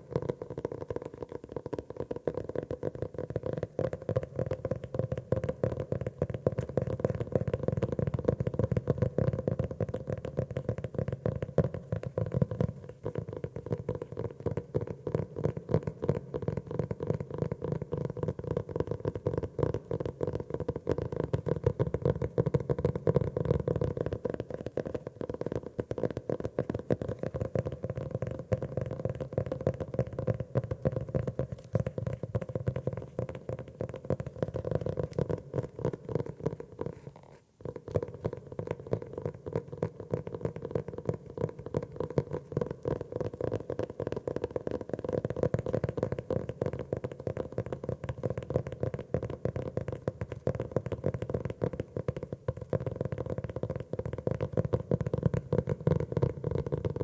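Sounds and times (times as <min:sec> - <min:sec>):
rapid tapping on a notebook: 0:00.0 - 0:57.0.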